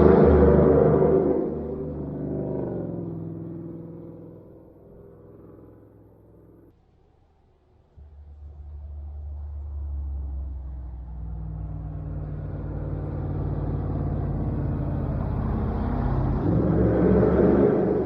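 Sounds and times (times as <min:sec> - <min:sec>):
pickup truck engine drone: 0:00.0 - 0:06.7, 0:08.0 - 0:18.0.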